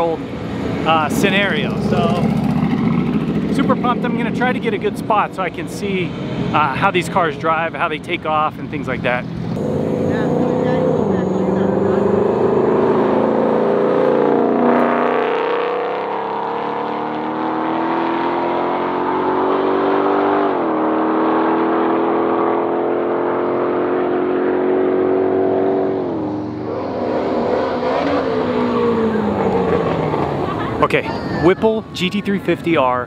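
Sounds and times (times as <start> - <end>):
car engine accelerating: 0.0 - 32.7.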